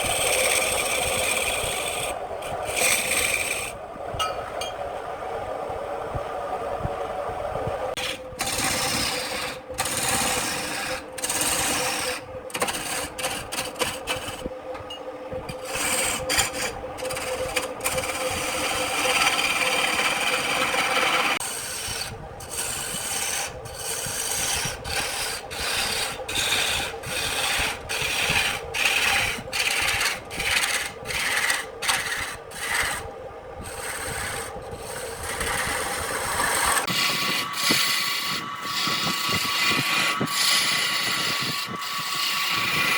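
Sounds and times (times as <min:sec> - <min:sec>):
tool scraping spinning wood: 0:00.0 - 0:04.8, 0:08.0 - 0:42.9
lathe hum: 0:00.0 - 0:05.9, 0:07.9 - 0:42.9.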